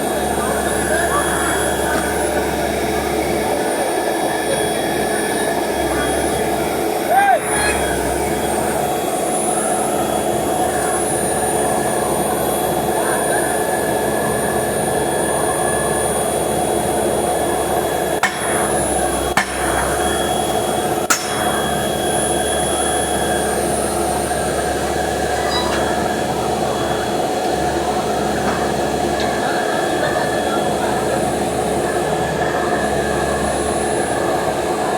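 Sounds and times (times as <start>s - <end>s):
drilling rig machinery droning: 0.0s - 34.9s.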